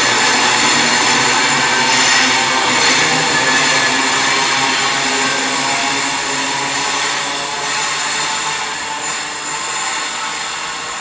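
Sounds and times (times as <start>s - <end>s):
electric train rolling past: 0.0s - 11.0s
steam locomotive hissing steam: 0.0s - 11.0s.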